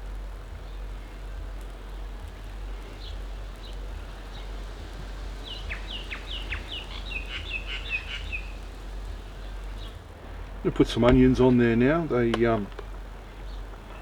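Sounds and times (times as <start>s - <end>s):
sausages sizzling: 0.0s - 14.0s
bird calling: 2.4s - 14.0s.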